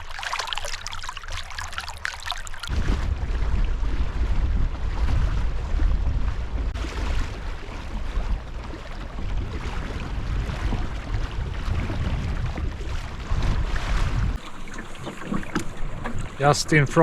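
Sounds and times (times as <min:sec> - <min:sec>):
water splashing along hull: 0:00.0 - 0:17.0
wind buffeting microphone: 0:02.4 - 0:17.0.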